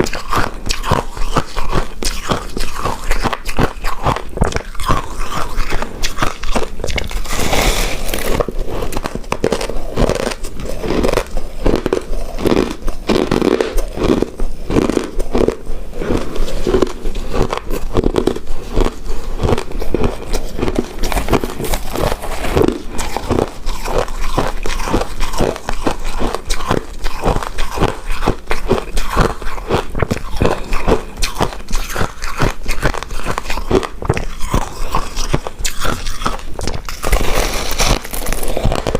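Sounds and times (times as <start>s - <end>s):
person chewing rice cake: 0.0s - 38.9s
wet mouth clicks: 0.0s - 38.9s.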